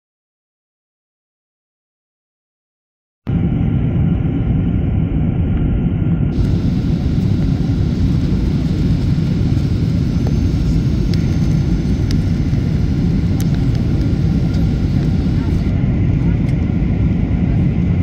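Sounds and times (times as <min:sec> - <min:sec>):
faint steady whine: 0:03.3 - 0:18.0
jet cabin low rumble: 0:03.3 - 0:18.0.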